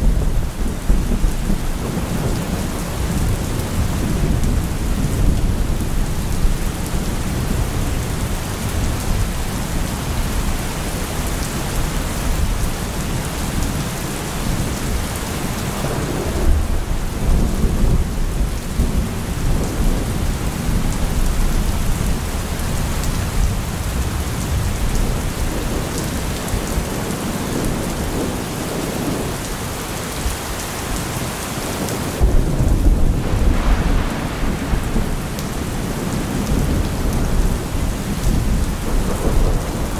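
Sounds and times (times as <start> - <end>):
rolling thunder: 0.0 - 30.6, 31.8 - 39.9
rain falling: 0.0 - 39.9.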